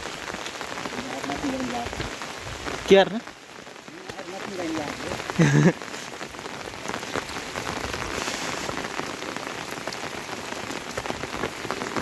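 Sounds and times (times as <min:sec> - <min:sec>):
rain drops ticking: 0:00.0 - 0:12.0.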